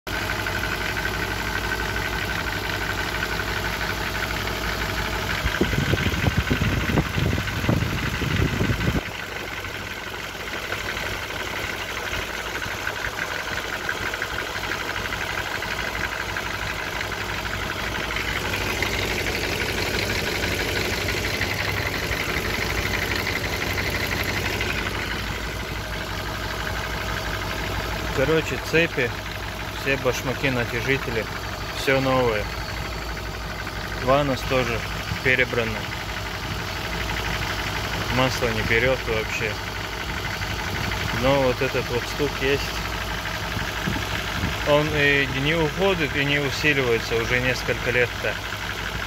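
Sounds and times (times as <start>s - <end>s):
car engine idling with knock: 0.1s - 49.0s.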